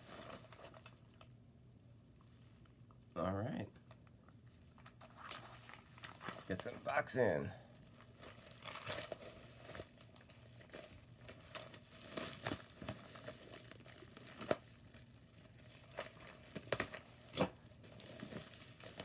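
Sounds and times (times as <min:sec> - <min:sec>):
bubble wrap crinkling: 0:00.0 - 0:01.4, 0:04.5 - 0:19.0.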